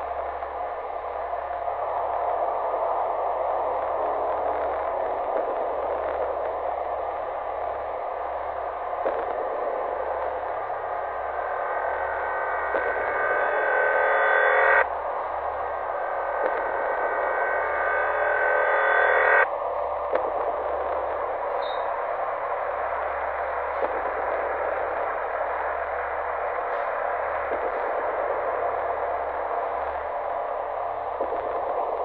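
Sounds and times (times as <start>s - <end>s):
static-like noise with low hum: 0.0s - 32.0s.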